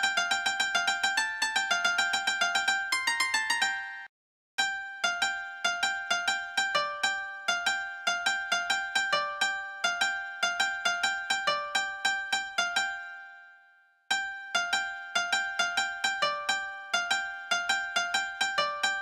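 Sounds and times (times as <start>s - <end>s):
light plucked melody: 0.0s - 19.0s.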